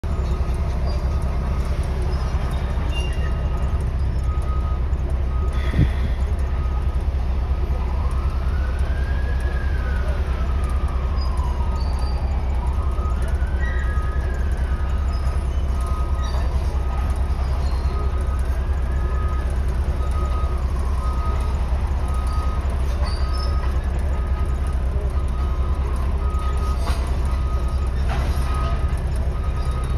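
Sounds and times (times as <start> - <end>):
vehicle engine idling: 0.0 - 29.9.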